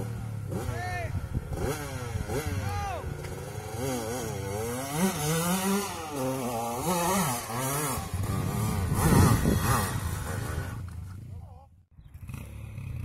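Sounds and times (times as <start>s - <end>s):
dirt bike engine revving: 0.0s - 11.4s, 12.1s - 13.0s.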